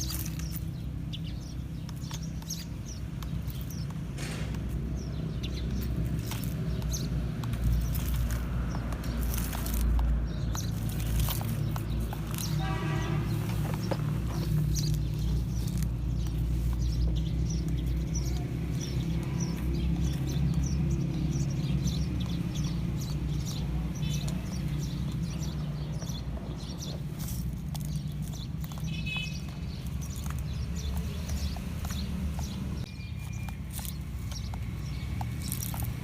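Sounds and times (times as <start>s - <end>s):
clicks and crunches over ground: 0.0s - 36.0s.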